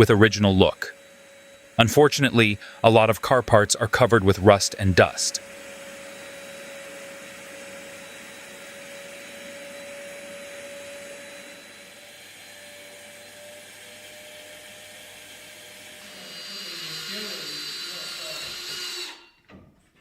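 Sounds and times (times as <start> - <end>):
small electric motor whining: 0.0 - 19.4.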